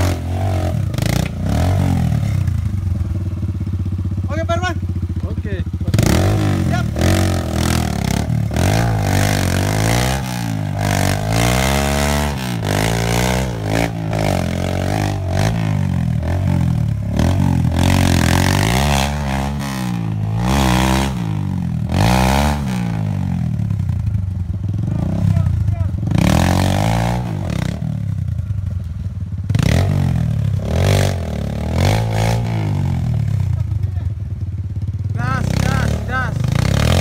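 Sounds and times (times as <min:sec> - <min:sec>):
dirt bike engine revving: 0:00.0 - 0:28.7, 0:29.4 - 0:37.0.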